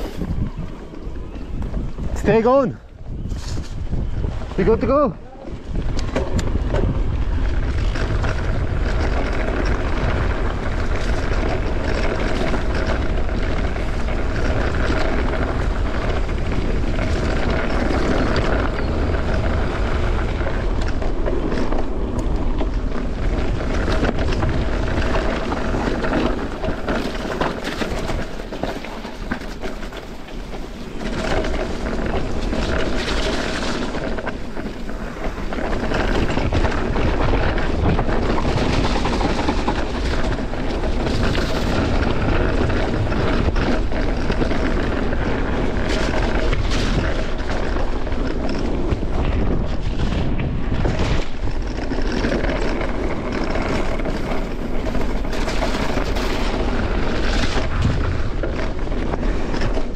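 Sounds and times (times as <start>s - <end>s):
bike rattling over bumps: 0.0s - 59.9s
bike tyres on trail: 0.0s - 59.9s
wind buffeting microphone: 0.0s - 59.9s.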